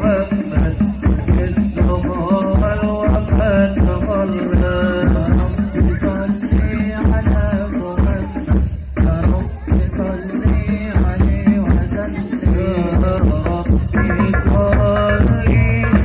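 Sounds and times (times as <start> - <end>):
devotional chant singing: 0.0 - 16.0
frame drums in steady rhythm: 0.0 - 16.0.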